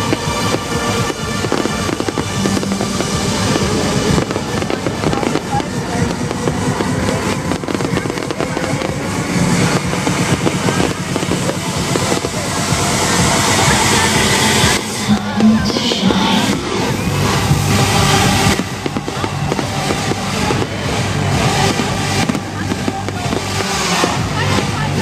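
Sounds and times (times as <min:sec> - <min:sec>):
fireworks crackling and banging: 0:00.0 - 0:25.0
loud music over sound system: 0:00.0 - 0:25.0.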